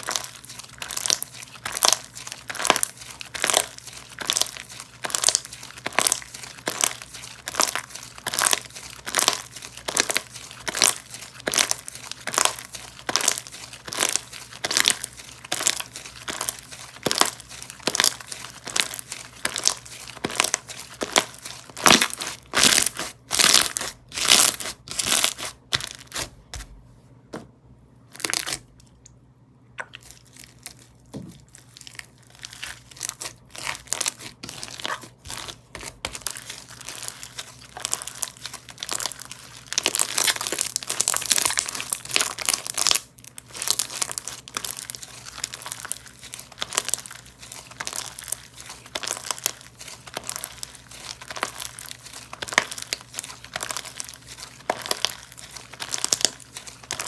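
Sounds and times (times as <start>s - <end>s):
slime crackling when squeezed: 0.0s - 26.2s, 29.8s - 57.0s.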